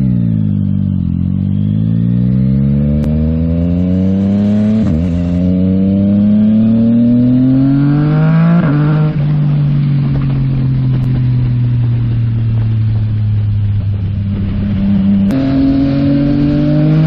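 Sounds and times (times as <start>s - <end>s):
motorcycle accelerating through gears: 0.0s - 17.0s.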